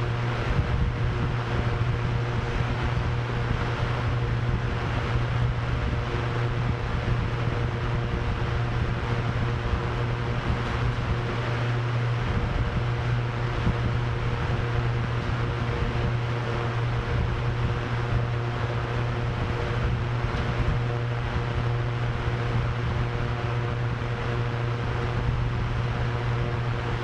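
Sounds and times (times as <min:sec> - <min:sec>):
drone propellers whirring: 0:00.0 - 0:27.0.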